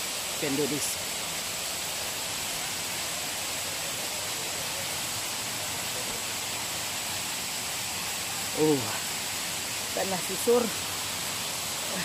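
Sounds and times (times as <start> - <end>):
flowing water rushing: 0.0 - 12.0
thin high steady tone: 0.0 - 12.0.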